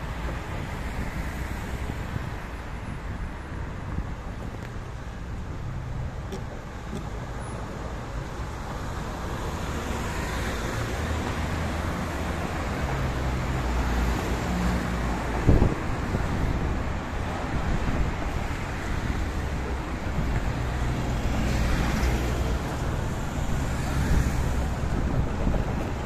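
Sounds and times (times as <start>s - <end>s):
car engines: 0.0s - 26.0s
tyre noise on road: 0.0s - 26.0s.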